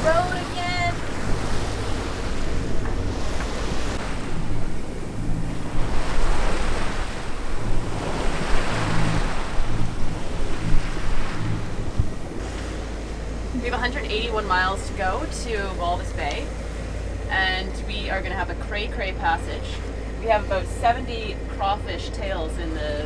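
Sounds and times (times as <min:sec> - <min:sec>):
wind buffeting microphone: 0:00.0 - 0:21.7
water rushing along hull: 0:00.0 - 0:23.0.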